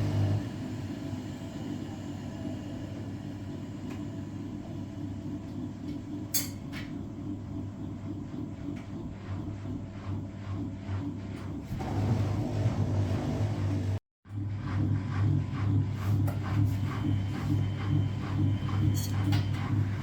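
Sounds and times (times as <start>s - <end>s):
washing machine rumble: 0.0s - 20.0s.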